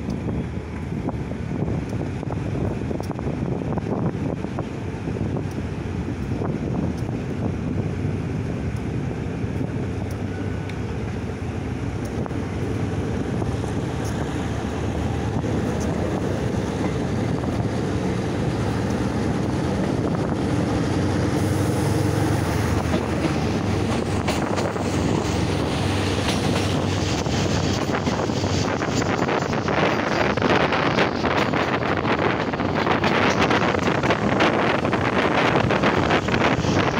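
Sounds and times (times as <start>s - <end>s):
train wheels rumbling on track: 0.0s - 36.9s
wind buffeting microphone: 0.0s - 36.9s.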